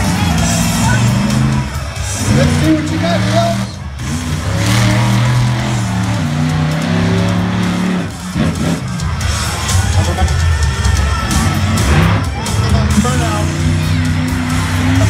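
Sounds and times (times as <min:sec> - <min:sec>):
monster truck engine rumbling: 0:00.0 - 0:15.0
music over loudspeakers: 0:00.0 - 0:15.0.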